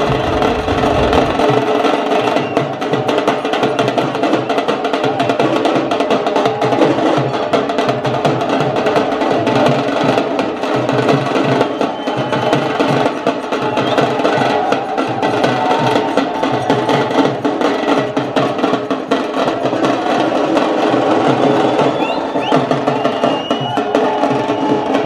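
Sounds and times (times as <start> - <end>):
large drums beaten fast: 0.0 - 25.0.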